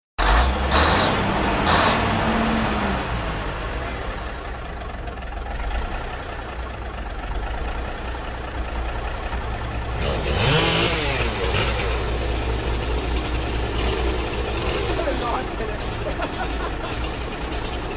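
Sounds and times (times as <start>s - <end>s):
engine running with low drone: 0.2s - 17.9s.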